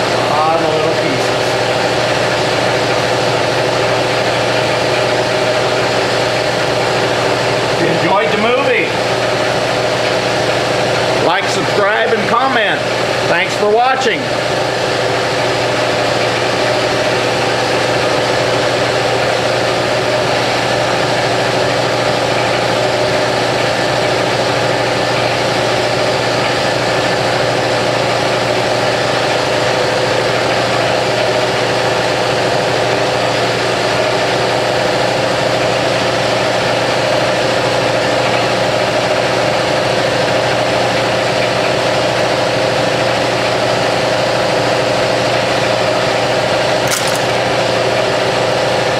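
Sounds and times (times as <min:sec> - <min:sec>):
electric pump motor humming: 0:00.0 - 0:48.9.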